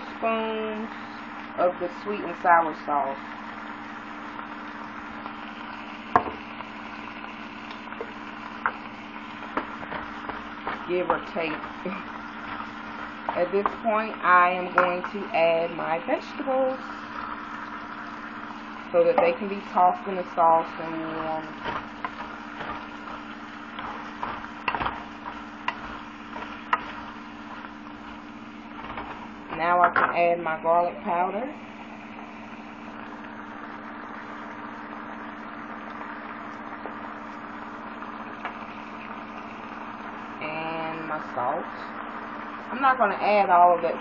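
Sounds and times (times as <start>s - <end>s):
chicken sizzling in a frying pan: 0.0s - 44.0s
steady low hum: 0.0s - 44.0s.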